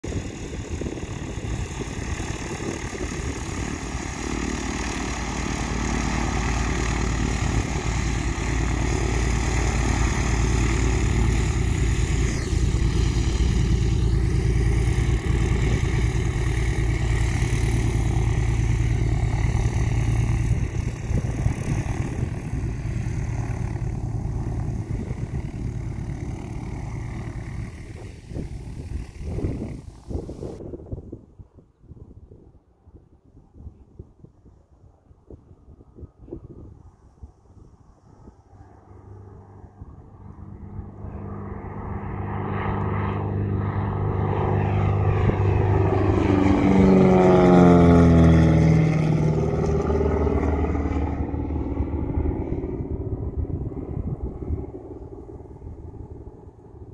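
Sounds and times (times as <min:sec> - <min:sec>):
propeller aircraft engine taxiing: 0:00.0 - 0:30.6, 0:36.8 - 0:56.9.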